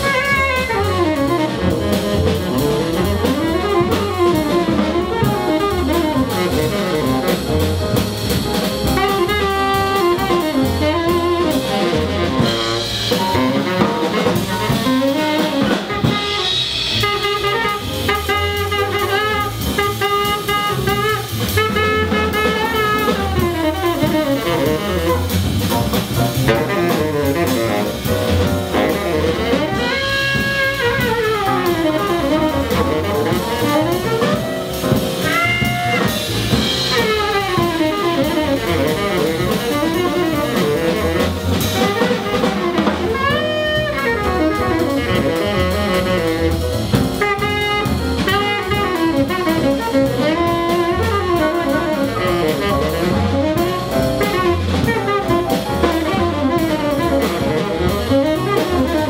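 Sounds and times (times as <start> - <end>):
drum kit: 0.0 - 59.0
piano: 0.0 - 59.0
tenor saxophone solo: 0.0 - 59.0
upright double bass: 0.0 - 59.0.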